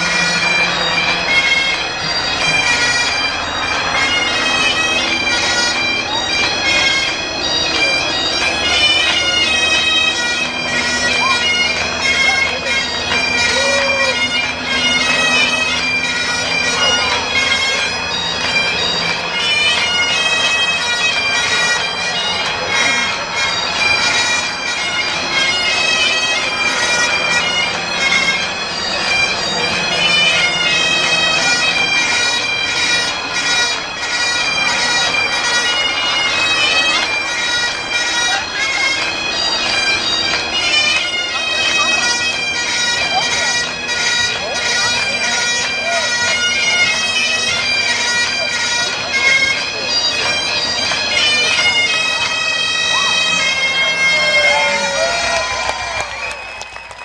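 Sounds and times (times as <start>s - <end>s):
bagpipes playing a quick tune: 0.0s - 57.0s.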